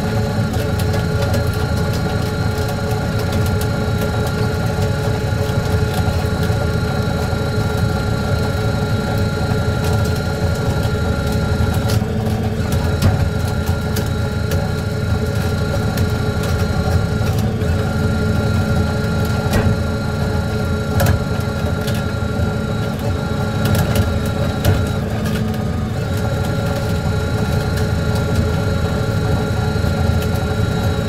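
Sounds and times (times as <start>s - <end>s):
boat engine and deck machinery: 0.0s - 31.0s
high whine: 0.0s - 31.0s.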